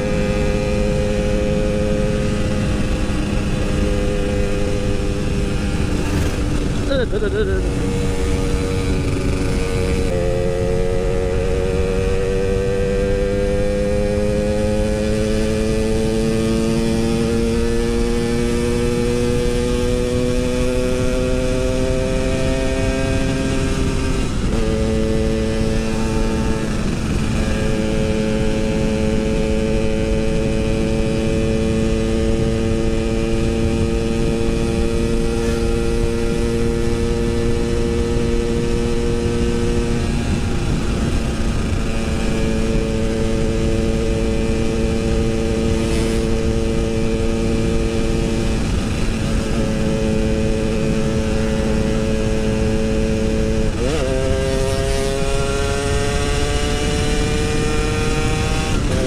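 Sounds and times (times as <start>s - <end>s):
two-stroke motorcycle engine running: 0.0s - 59.0s.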